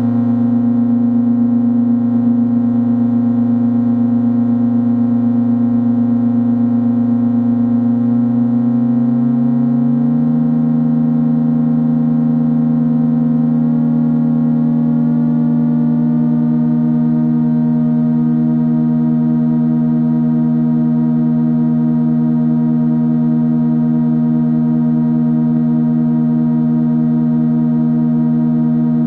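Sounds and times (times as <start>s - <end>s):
two-tone synth drone: 0.0s - 29.0s.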